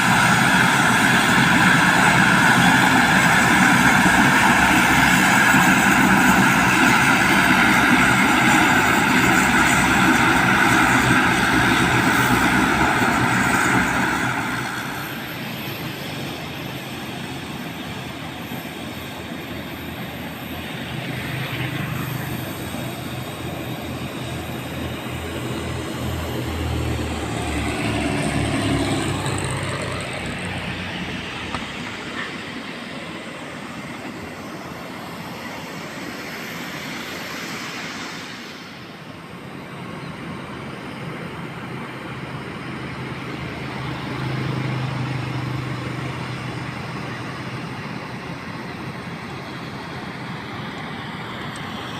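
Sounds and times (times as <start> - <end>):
propeller airliner engines whining: 0.0 - 51.9.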